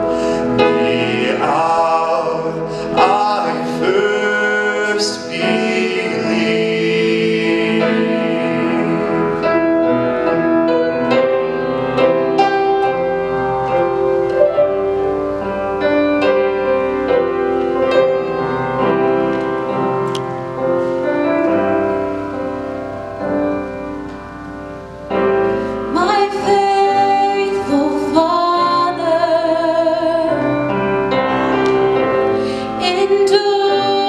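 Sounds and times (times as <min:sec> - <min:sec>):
piano playing: 0:00.0 - 0:34.0.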